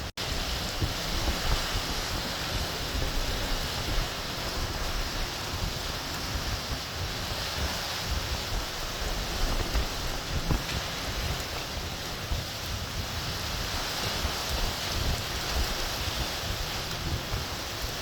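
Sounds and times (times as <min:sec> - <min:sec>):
strong wind gusting: 0:00.0 - 0:18.0
surf rushing: 0:00.0 - 0:18.0
wind buffeting microphone: 0:00.0 - 0:18.0.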